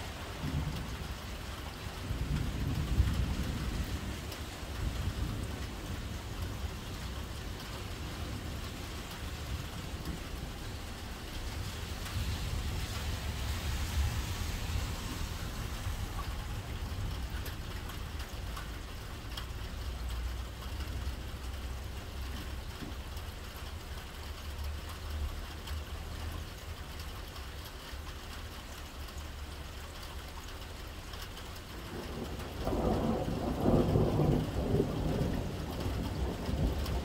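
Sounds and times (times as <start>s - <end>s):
raindrops ticking: 0.0s - 37.0s.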